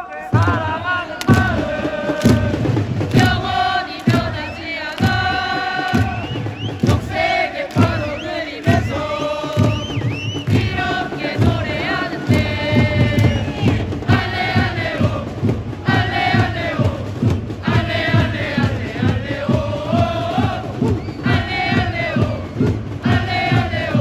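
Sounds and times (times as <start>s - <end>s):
crowd chanting in unison: 0.0s - 24.0s
bass drum beat: 0.2s - 24.0s.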